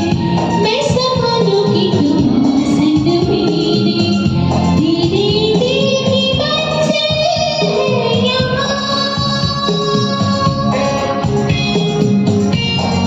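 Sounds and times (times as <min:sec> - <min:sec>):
film song over karaoke backing: 0:00.0 - 0:13.0.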